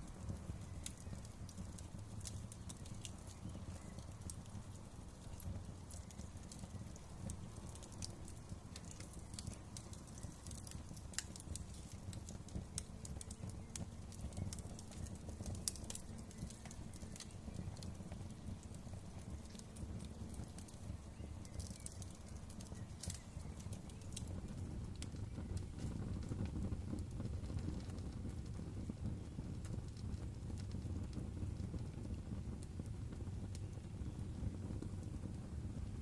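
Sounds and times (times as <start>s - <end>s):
fire crackling and popping: 0.0s - 36.0s
low rumble of flames: 0.0s - 36.0s.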